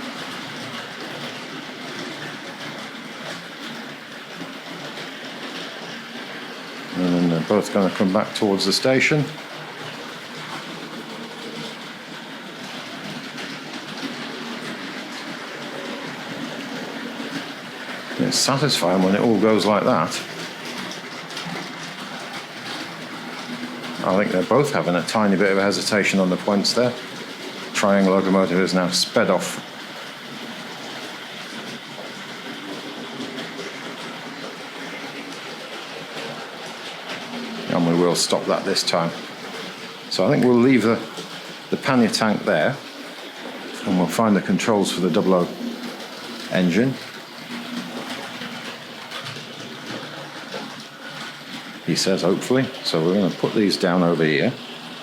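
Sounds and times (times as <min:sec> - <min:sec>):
model train motors whirring: 0:00.0 - 0:55.0
wheels rattling over track: 0:00.0 - 0:55.0.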